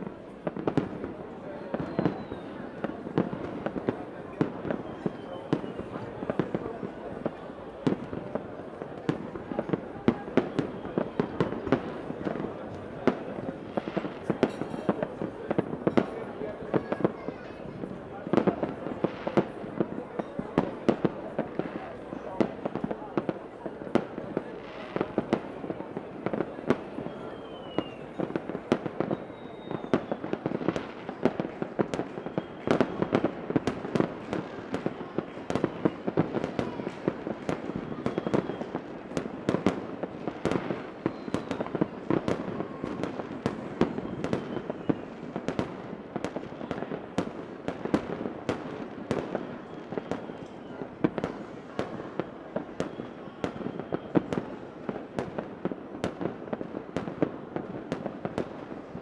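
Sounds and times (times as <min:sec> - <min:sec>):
fireworks bangs and crackles: 0:00.0 - 0:59.0
fireworks falling whistles: 0:00.4 - 0:22.7, 0:24.7 - 0:56.6.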